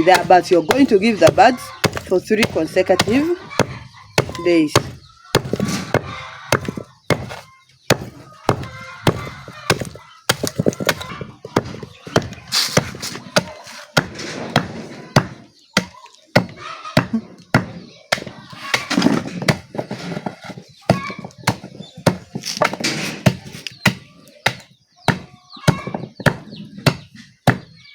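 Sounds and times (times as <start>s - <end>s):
charcoal being pounded: 0.0s - 20.0s, 20.9s - 27.7s.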